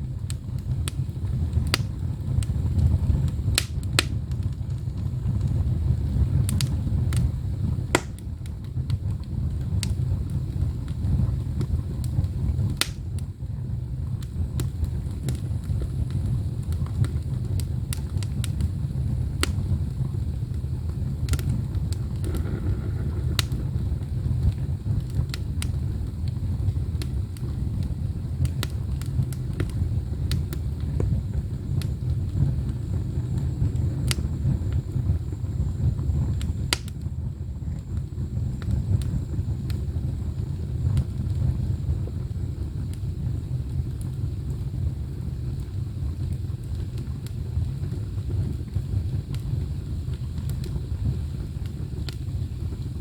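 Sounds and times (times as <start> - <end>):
firewood burning with pops and crackles: 0.0 - 53.0
furnace rumble: 0.0 - 53.0.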